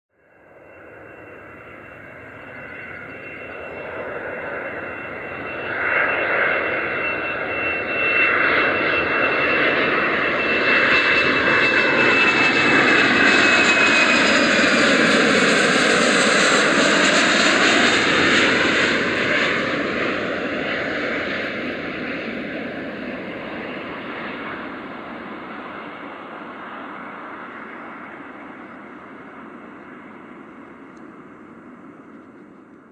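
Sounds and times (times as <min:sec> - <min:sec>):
jet airliner passing overhead: 0:00.2 - 0:32.9.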